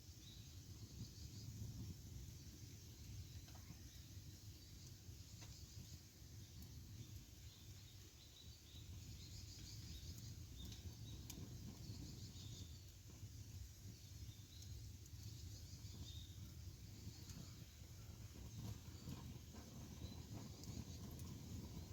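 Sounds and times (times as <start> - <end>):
campfire crackles: 0.0 - 21.9.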